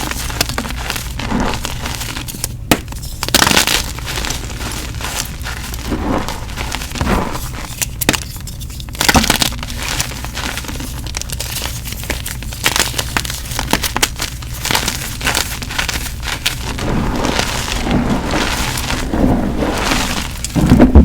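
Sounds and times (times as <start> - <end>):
chalk crunching and crackling: 0.0 - 21.0.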